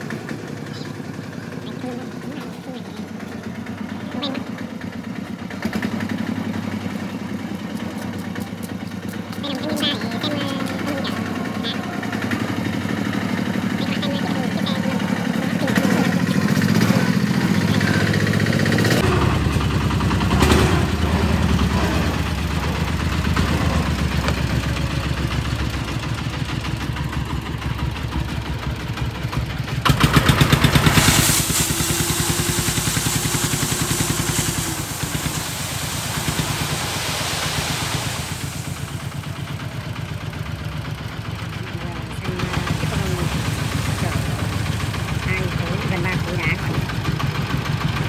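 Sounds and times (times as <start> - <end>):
diesel engine thudding: 0.0 - 48.0.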